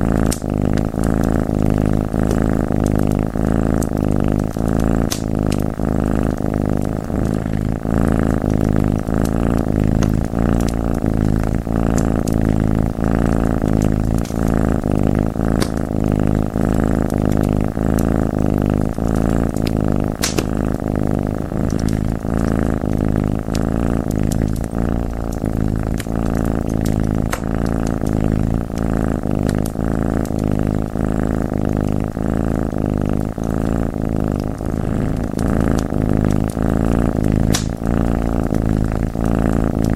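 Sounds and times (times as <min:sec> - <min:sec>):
wood fire crackling: 0:00.0 - 0:32.2, 0:32.8 - 0:39.9
cat purring: 0:00.0 - 0:39.9.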